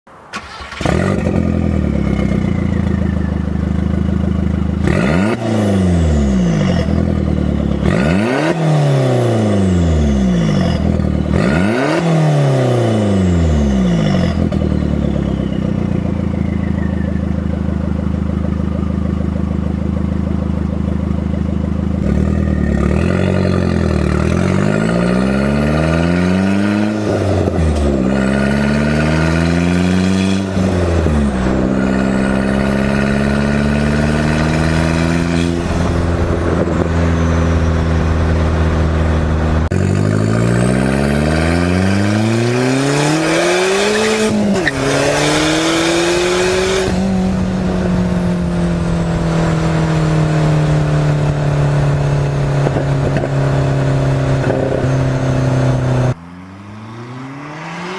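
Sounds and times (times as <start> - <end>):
car engine accelerating: 0.3 - 57.9.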